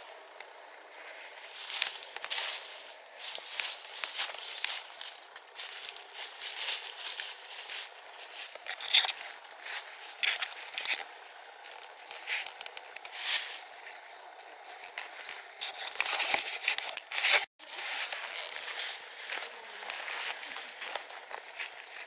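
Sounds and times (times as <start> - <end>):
footsteps crunching dry leaves: 0.0 - 22.0
leaves and twigs brushing: 0.0 - 22.0.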